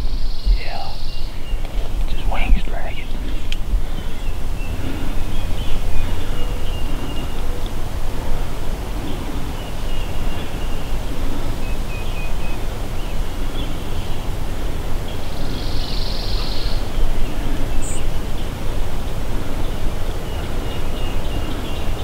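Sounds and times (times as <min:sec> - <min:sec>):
bird trill: 0:00.0 - 0:22.0
songbird chirps: 0:00.0 - 0:22.0
wind rumble on microphone: 0:00.0 - 0:22.0.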